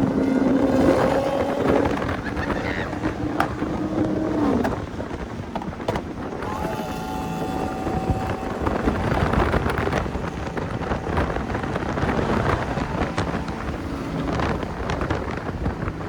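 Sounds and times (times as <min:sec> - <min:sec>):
car engine and road rumble: 0:00.0 - 0:16.0
wind buffeting microphone: 0:00.0 - 0:16.0.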